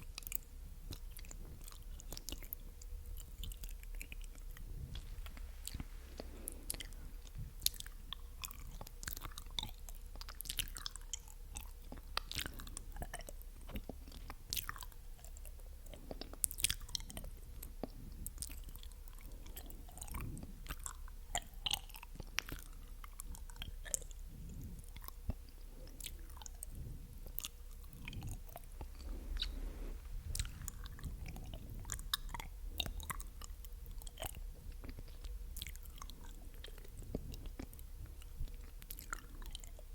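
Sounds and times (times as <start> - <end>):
wet tongue and lip clicks: 0.0 - 39.9.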